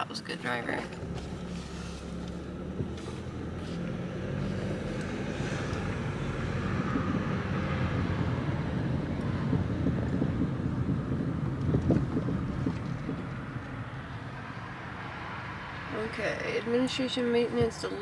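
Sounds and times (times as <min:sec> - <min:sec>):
car engine hum: 0:00.0 - 0:18.0
tyre and road noise: 0:00.0 - 0:18.0.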